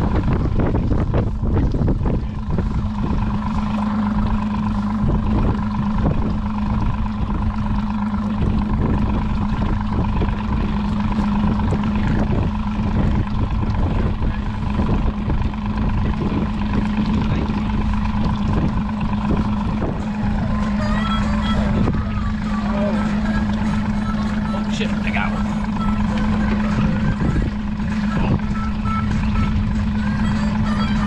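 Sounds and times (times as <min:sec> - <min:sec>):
boat motor running: 0:00.0 - 0:31.0
wind buffeting microphone: 0:00.0 - 0:31.0.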